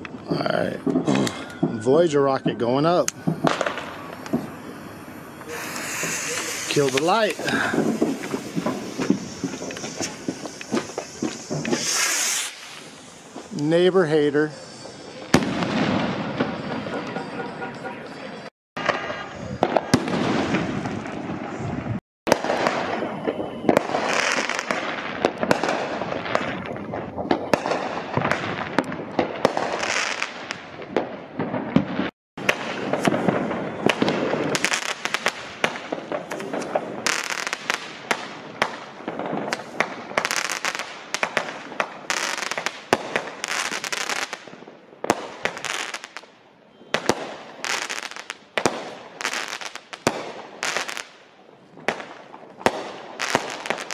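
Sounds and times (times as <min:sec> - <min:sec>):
fireworks launch thumps and bangs: 0:00.0 - 0:18.1, 0:18.8 - 0:51.2, 0:51.8 - 0:53.9
crackling firework bursts: 0:00.0 - 0:53.9.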